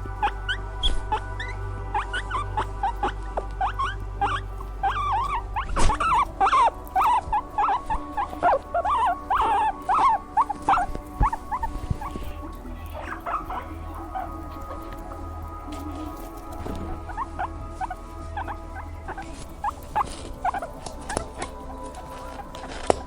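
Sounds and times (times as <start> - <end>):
small animal squeaking and whining: 0.0 - 23.0.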